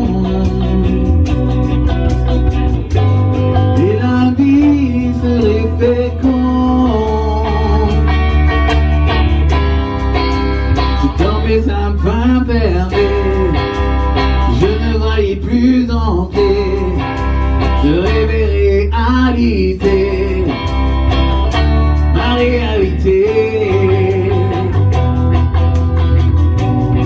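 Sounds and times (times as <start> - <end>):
guitar: 0.0 - 27.0
steady bass line: 0.0 - 27.0
sung melody: 0.0 - 27.0.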